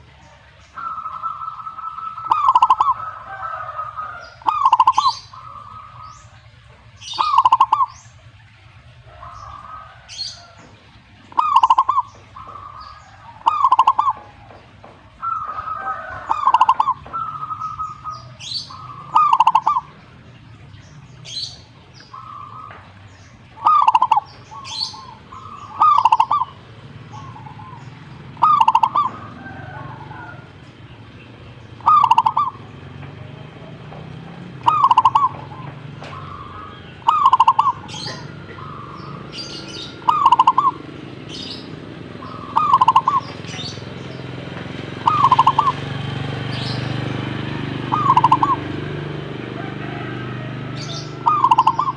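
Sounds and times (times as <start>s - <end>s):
dove cooing trilled song: 0.0s - 51.9s.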